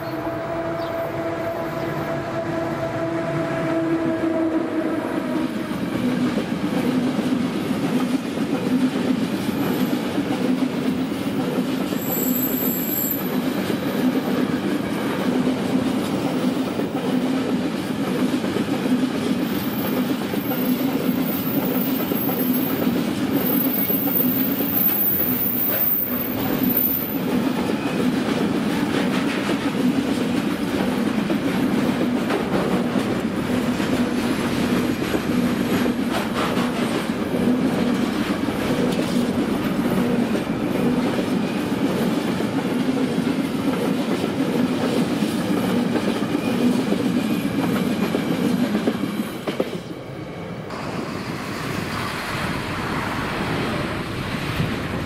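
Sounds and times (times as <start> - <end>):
freight train wheels rolling on rails: 0.0 - 55.0.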